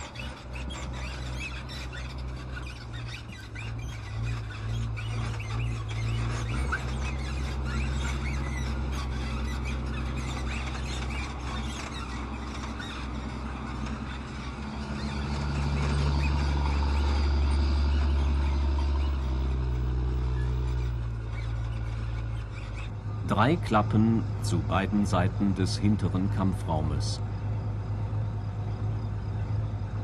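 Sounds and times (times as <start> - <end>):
diesel engine running: 0.0 - 30.0
short high squeaks: 0.0 - 30.0.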